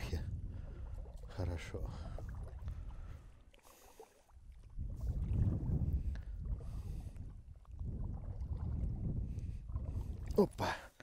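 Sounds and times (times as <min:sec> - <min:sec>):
wind buffeting microphone: 0:00.0 - 0:03.4, 0:04.4 - 0:10.7.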